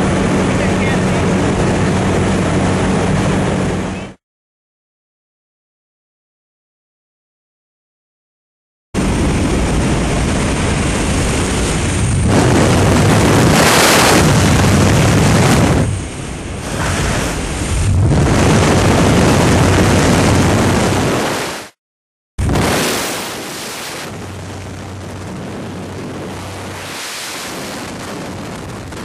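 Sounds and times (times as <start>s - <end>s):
wind rushing over microphone: 0.0s - 4.2s, 9.0s - 21.8s, 22.4s - 29.0s.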